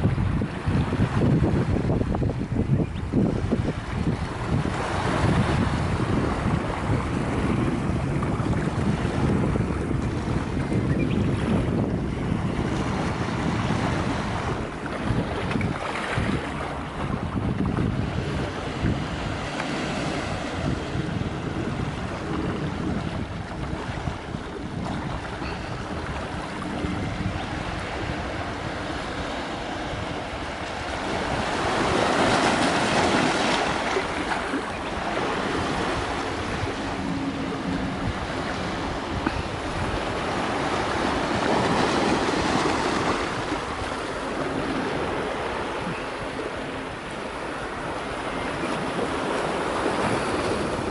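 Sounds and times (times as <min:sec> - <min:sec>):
sea waves washing against breakwater: 0:00.0 - 0:50.9
wind rumbling on microphone: 0:00.0 - 0:50.9.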